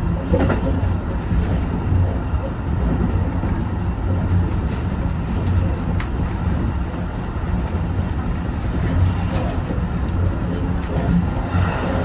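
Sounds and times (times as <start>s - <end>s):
train rumbling with pulsing hum: 0.0s - 12.0s.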